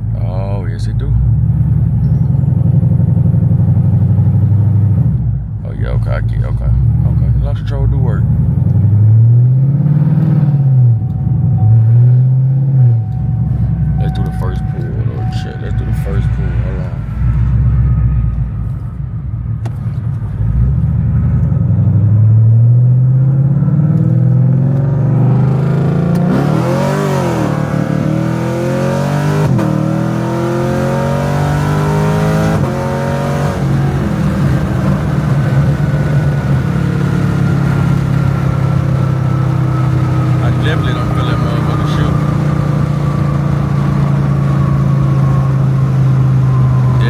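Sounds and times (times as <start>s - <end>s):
car engine accelerating hard: 0.0s - 47.0s.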